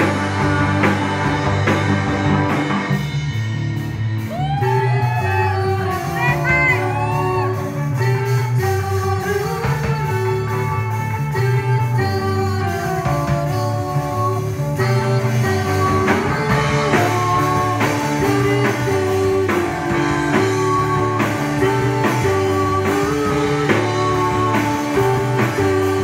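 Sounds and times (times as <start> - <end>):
bass guitar: 0.0 - 26.0
drum kit beat: 0.0 - 26.0
electric guitars: 0.0 - 26.0.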